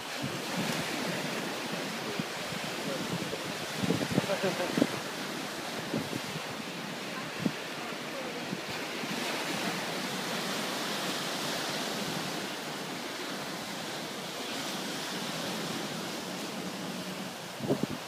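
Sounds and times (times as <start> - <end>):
waves breaking against seawall: 0.0 - 18.0.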